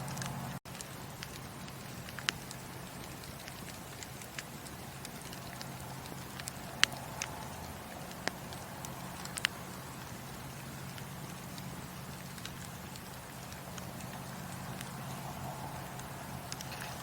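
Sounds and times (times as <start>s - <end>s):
fire crackles and pops: 0.0s - 17.0s
wood fire hissing: 0.0s - 17.0s.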